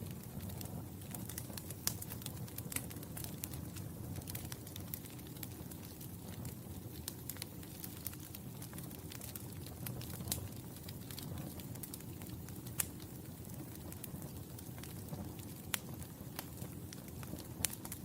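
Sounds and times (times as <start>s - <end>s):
fire crackles and pops: 0.0s - 18.0s
low rumble of flames: 0.0s - 18.0s.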